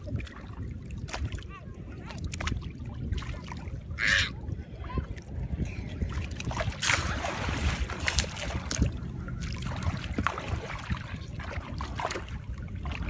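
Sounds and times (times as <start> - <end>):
sea water sloshing and splashing: 0.0 - 13.0
wind buffeting microphone: 0.0 - 13.0.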